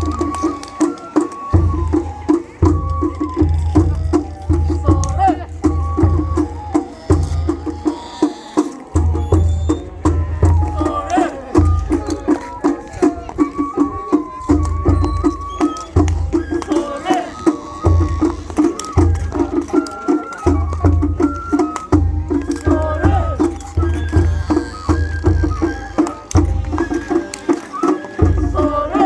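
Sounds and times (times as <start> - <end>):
high held flute melody: 0.0 - 29.0
deep drum beats: 1.6 - 7.8, 8.9 - 19.8, 20.5 - 27.3.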